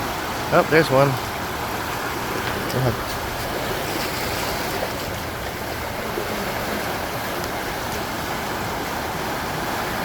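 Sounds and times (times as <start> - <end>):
ocean surf on rocks: 0.0 - 10.0.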